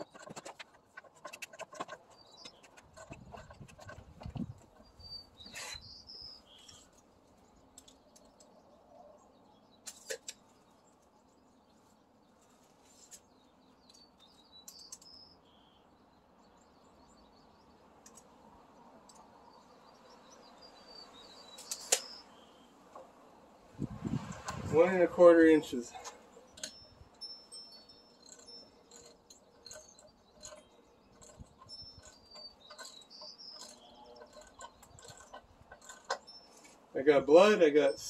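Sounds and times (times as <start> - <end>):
faint bird chirps: 1.2 - 17.8, 19.1 - 22.8, 25.5 - 36.8.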